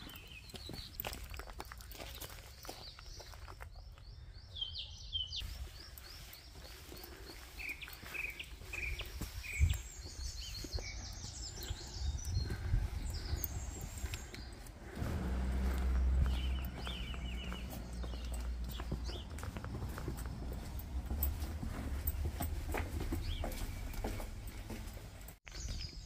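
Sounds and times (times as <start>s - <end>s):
footsteps on brick path: 0.0s - 26.0s
small birds chirping: 0.0s - 26.0s.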